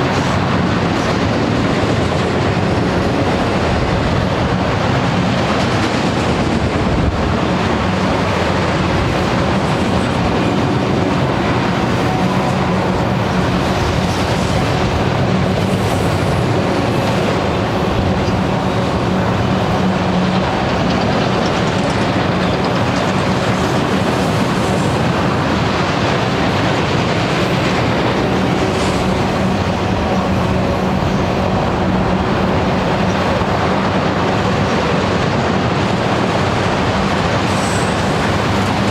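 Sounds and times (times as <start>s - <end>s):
train wheels on rails: 0.0s - 38.9s.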